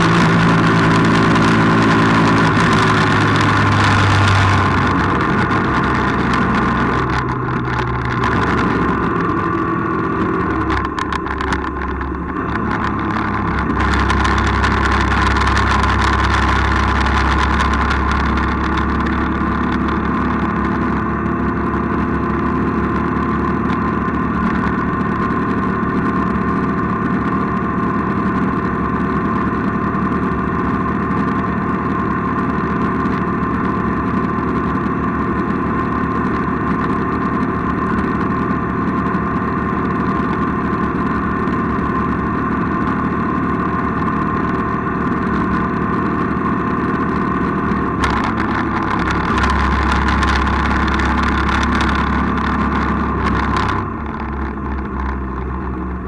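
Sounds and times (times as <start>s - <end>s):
road and wind noise: 0.0s - 56.0s
vehicle engine running: 0.0s - 56.0s.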